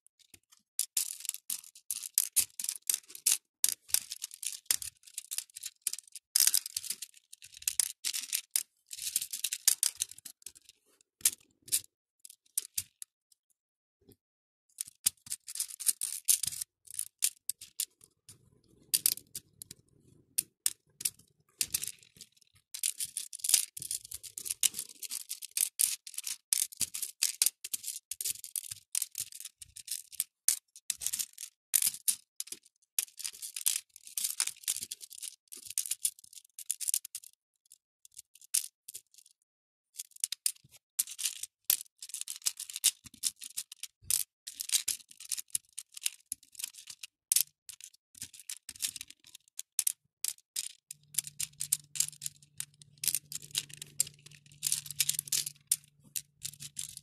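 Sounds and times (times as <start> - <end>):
plastic beads clicking and rattling: 0.8 - 10.7, 14.8 - 17.9, 18.7 - 19.8, 20.4 - 30.3, 30.9 - 37.0, 40.3 - 57.0.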